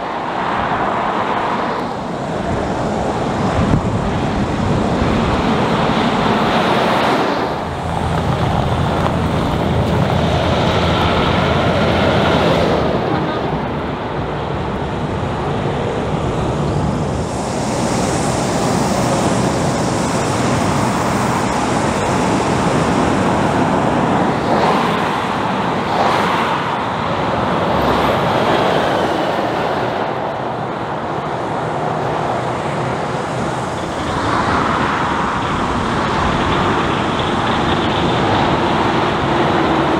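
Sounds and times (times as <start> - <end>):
diesel trucks driving past: 0.0 - 39.9.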